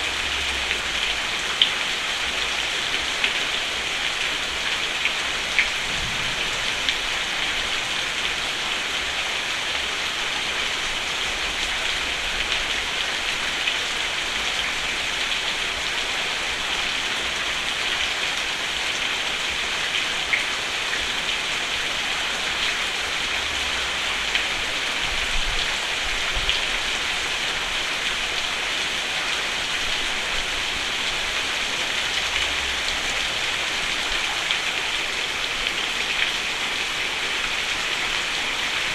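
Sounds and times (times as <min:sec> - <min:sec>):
rain on a roof: 0:00.0 - 0:38.9.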